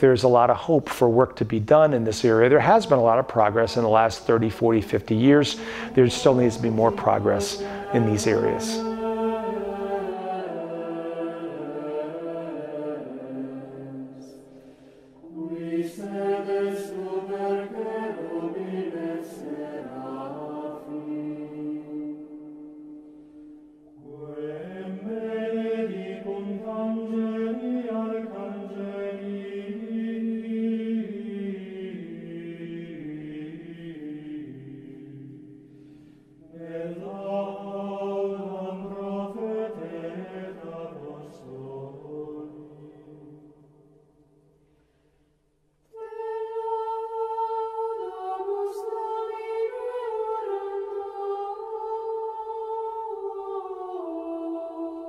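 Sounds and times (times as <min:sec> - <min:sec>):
choir chanting long notes: 0:02.0 - 0:44.2, 0:45.9 - 0:55.0.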